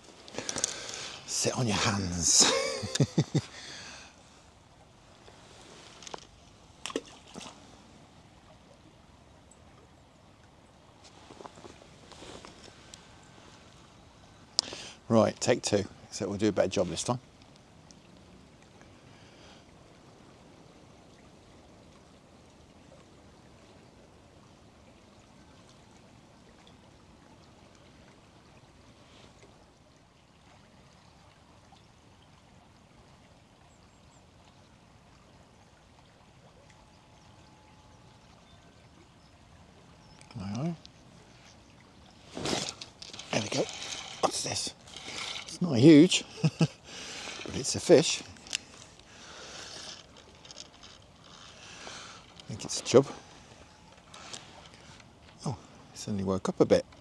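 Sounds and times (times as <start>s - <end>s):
river water running: 0.0s - 57.0s.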